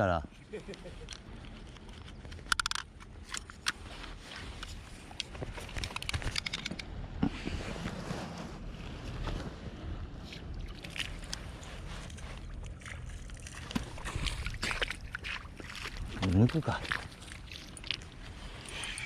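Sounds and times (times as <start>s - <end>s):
low rumble of wind and water: 0.0s - 19.0s.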